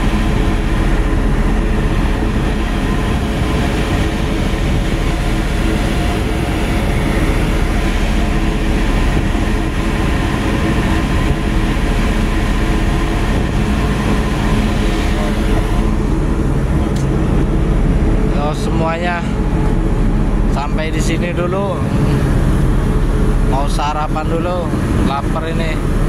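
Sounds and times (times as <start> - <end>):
diesel engine droning: 0.0 - 26.0
wind and water rushing: 0.0 - 26.0.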